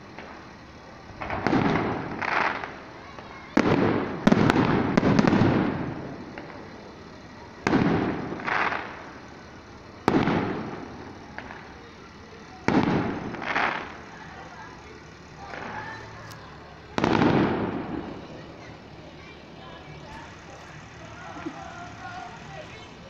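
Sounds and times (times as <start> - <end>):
rolling rumble: 0.0 - 23.0
firework shells bursting: 0.1 - 23.0.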